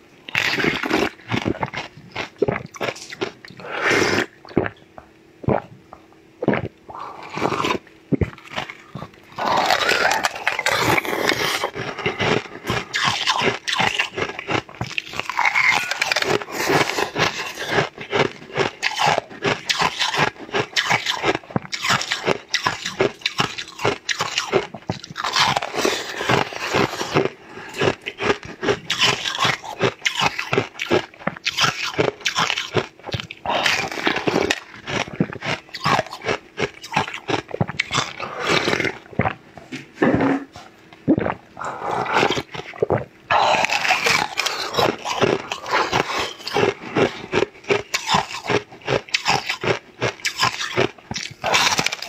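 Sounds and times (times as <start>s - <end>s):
crunching food: 0.3s - 5.7s, 6.4s - 52.0s.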